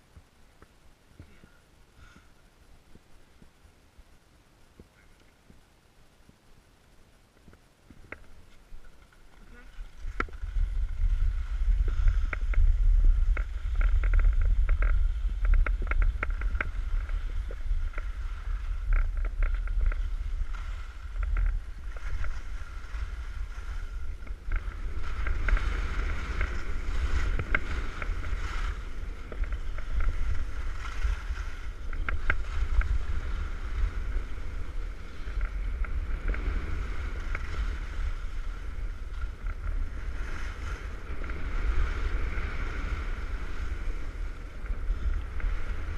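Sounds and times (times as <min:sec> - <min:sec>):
wind buffeting microphone: 0:07.8 - 0:45.9
skis scraping over snow: 0:07.9 - 0:45.9.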